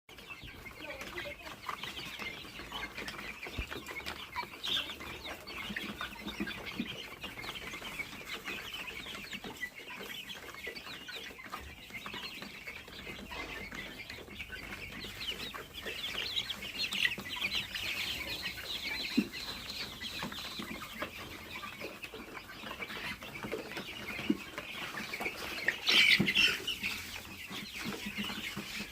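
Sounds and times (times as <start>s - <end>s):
chicks peeping: 0.1s - 28.9s.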